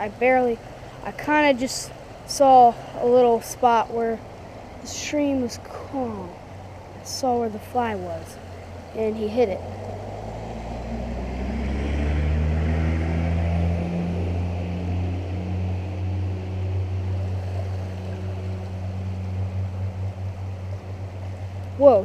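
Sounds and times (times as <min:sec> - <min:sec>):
motor droning: 0:02.0 - 0:22.0.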